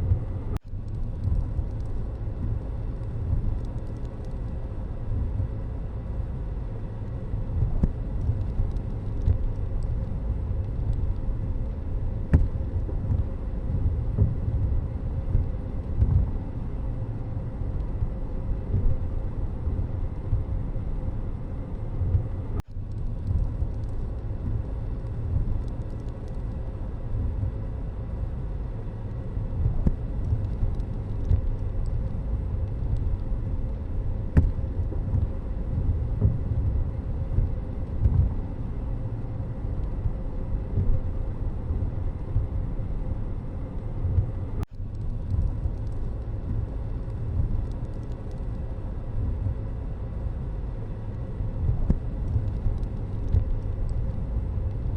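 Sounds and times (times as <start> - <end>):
low rumble of road vehicles: 0.0 - 54.9.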